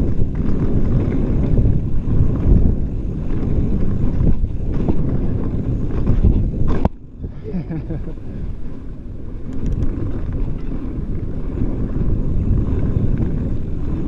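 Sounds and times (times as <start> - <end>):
bike rattles and clicks: 0.0 - 14.0
bike tyres rolling on dirt: 0.0 - 14.0
wind buffeting microphone: 0.0 - 14.0.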